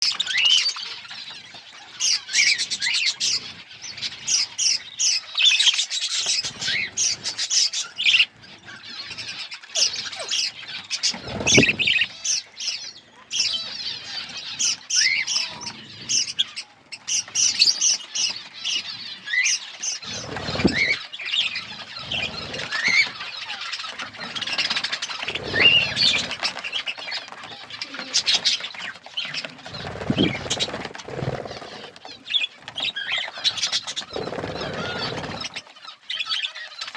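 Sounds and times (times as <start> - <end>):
budgerigars chattering: 0.0 - 36.9.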